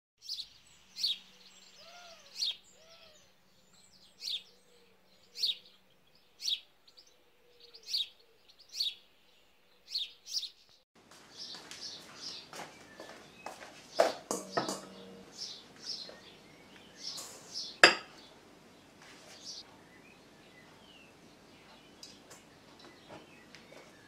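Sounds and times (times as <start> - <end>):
bird chirping: 0.2 - 24.0.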